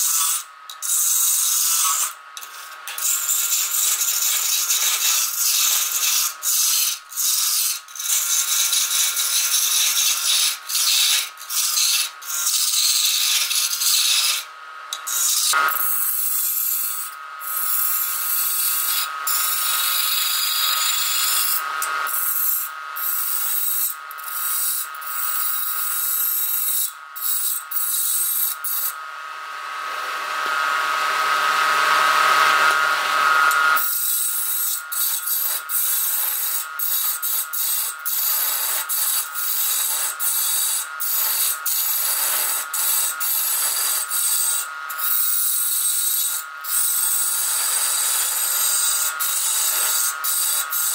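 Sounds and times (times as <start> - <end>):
wood lathe whine: 0.0 - 50.9.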